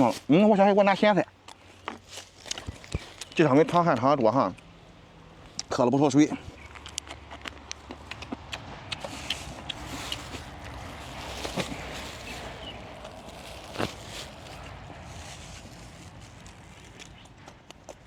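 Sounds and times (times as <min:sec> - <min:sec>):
man chewing with lip smacks: 0:01.3 - 0:04.7, 0:05.4 - 0:15.1, 0:15.7 - 0:18.0.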